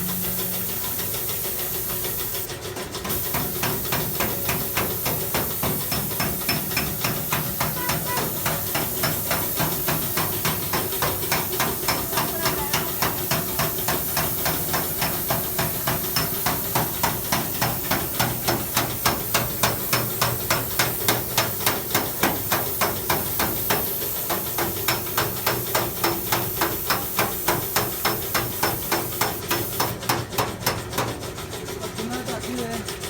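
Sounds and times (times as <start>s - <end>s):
strokes on sheet-metal casing: 3.1s - 31.2s.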